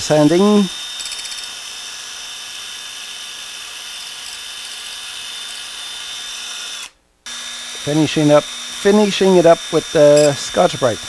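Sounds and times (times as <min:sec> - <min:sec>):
cordless drill running: 0:00.2 - 0:11.0.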